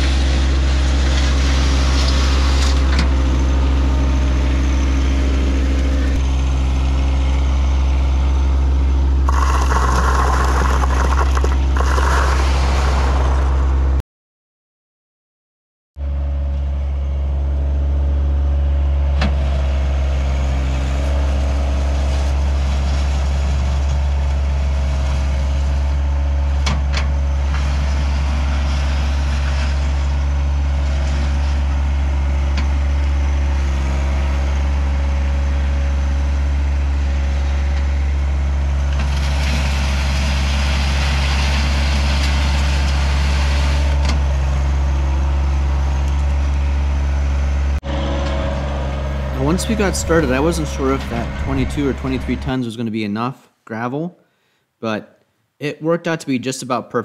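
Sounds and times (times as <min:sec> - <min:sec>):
tractor diesel engine running: 0:00.0 - 0:14.0, 0:16.0 - 0:52.6.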